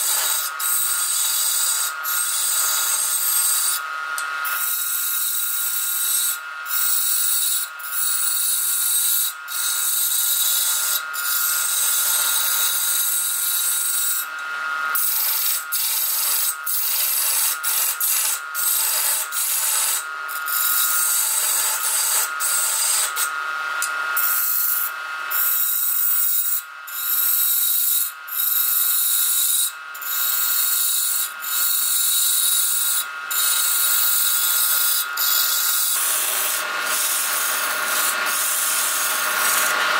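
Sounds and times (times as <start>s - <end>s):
chisel scraping spinning wood: 0.0s - 39.9s.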